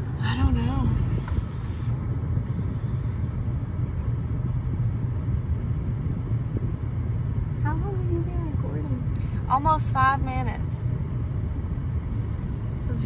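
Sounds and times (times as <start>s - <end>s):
motor vehicle rumble: 0.0s - 13.0s.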